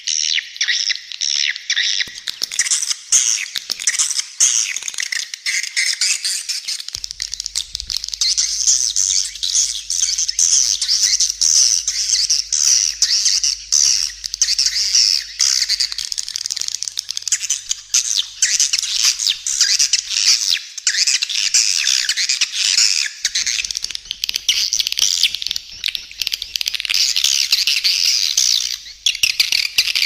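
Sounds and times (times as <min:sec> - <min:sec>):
swiftlets twittering and chirping: 0:02.1 - 0:30.0.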